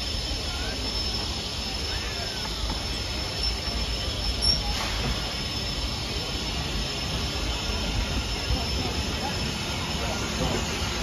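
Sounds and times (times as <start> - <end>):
steady high-pitched squeal: 0.0 - 11.0
train low rumble: 0.0 - 11.0.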